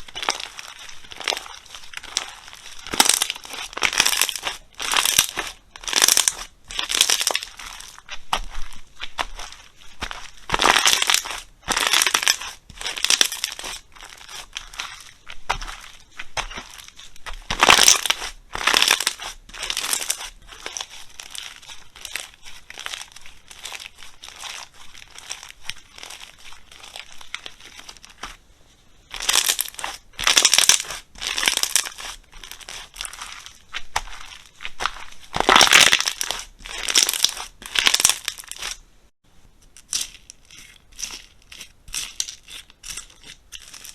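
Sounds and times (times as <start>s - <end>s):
slime squishing and crackling: 0.0s - 28.4s, 29.1s - 38.8s, 39.7s - 43.9s.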